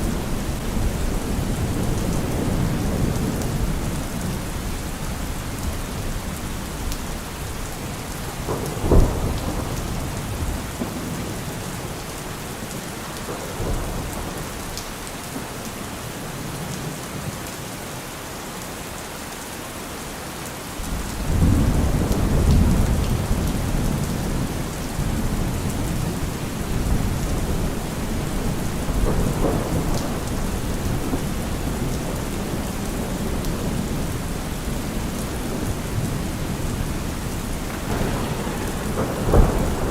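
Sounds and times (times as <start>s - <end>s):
thunder rumbling: 0.0s - 14.8s, 20.9s - 39.9s
rain on leaves: 0.0s - 39.9s.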